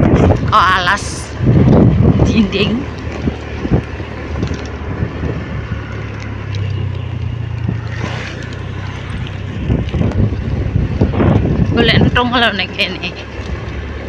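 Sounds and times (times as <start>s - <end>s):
motorcycle engine running: 0.0s - 14.0s
wind noise on microphone: 0.0s - 14.0s.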